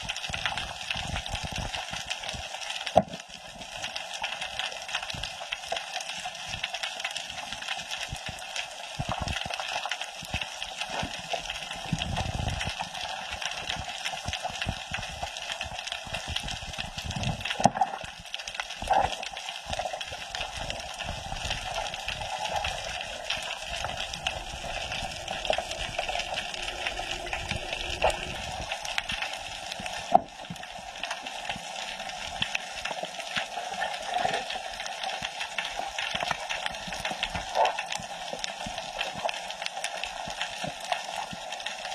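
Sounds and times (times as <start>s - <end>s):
fine crackling clicks: 0.0s - 41.9s
muffled underwater wash: 0.0s - 41.9s.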